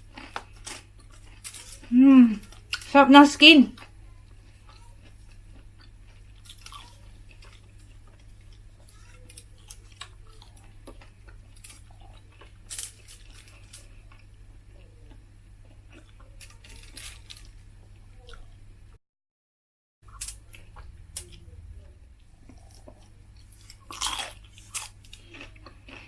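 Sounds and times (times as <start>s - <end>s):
crunchy chewing and biting: 0.0s - 2.9s, 3.8s - 18.6s, 22.2s - 26.0s.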